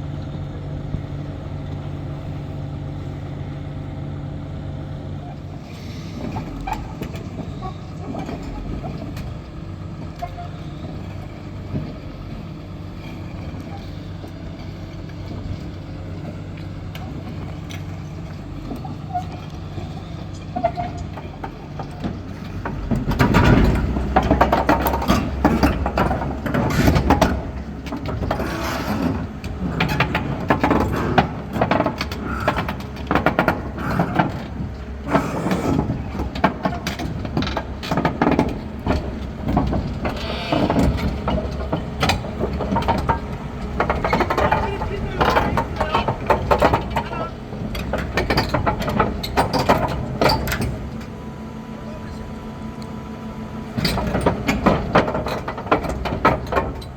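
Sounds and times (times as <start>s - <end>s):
diesel machinery engine running: 0.0s - 56.9s
metallic clanking and rattling: 5.8s - 52.5s, 53.6s - 56.9s.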